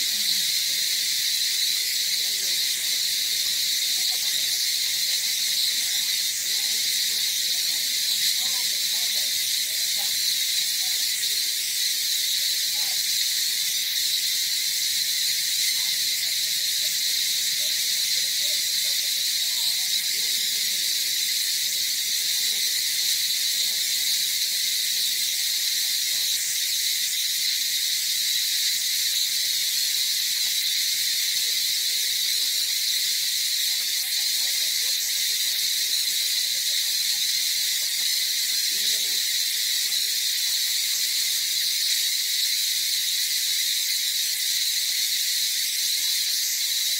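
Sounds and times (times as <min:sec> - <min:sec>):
insects buzzing shrilly: 0:00.0 - 0:46.9.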